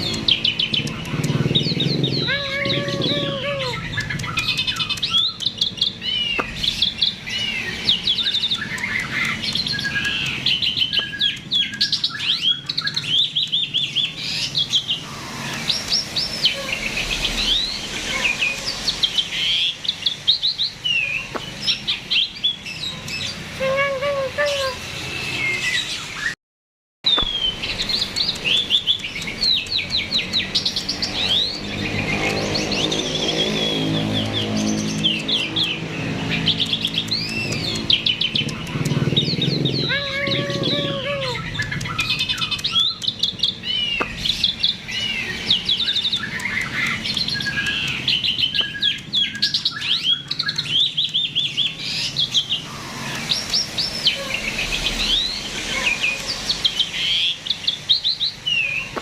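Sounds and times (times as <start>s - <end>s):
starling singing: 0.0s - 26.4s, 27.1s - 59.0s.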